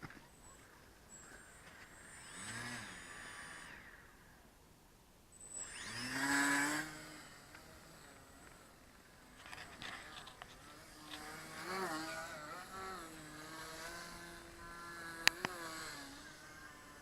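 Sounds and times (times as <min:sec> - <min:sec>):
model airplane motor whine: 0:00.4 - 0:04.5, 0:05.3 - 0:17.0.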